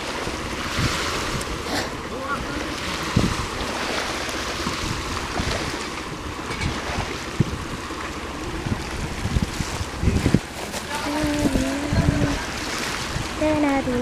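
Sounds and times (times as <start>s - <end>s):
waves washing on beach: 0.0s - 14.0s
wind on microphone: 0.0s - 14.0s.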